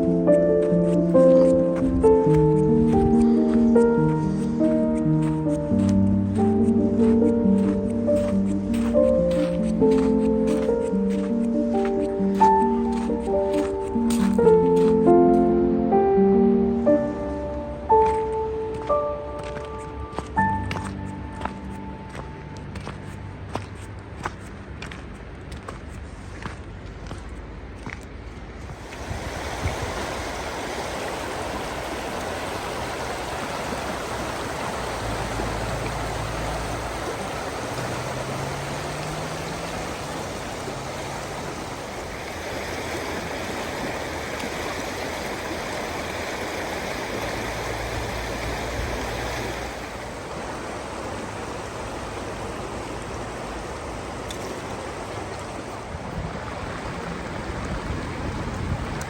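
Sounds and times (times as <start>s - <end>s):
river rushing: 0.0s - 26.6s, 28.6s - 59.0s.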